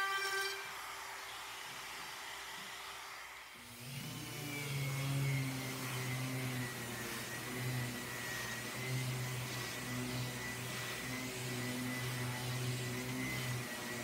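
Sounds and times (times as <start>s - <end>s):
orbital sander running: 0.0s - 14.0s
dust extractor rushing: 0.8s - 14.0s.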